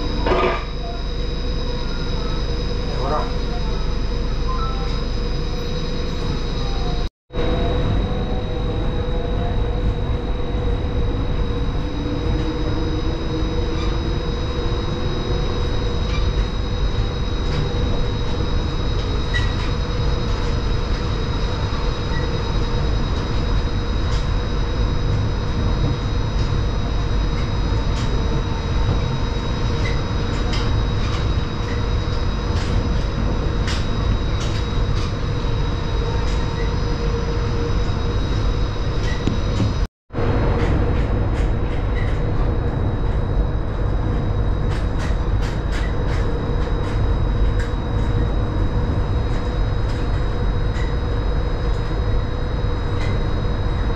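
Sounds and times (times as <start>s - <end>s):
high whine: 0.0s - 53.9s
monorail rumbling: 0.0s - 53.9s.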